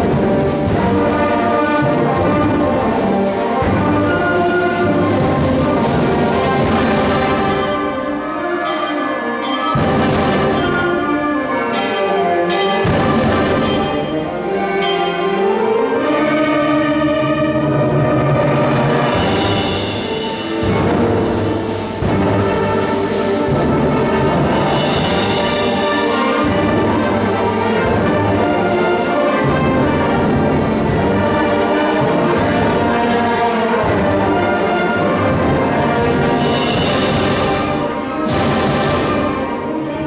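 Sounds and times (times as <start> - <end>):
concert band playing: 0.0 - 40.0.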